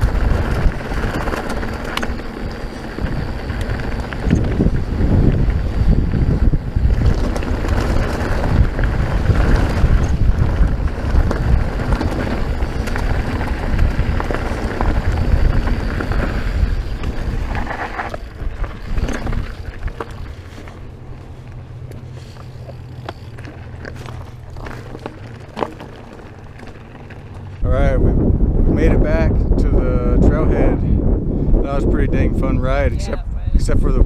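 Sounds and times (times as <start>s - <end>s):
bike clicks and rattles: 0.0s - 27.6s
wind buffeting microphone: 0.0s - 34.0s.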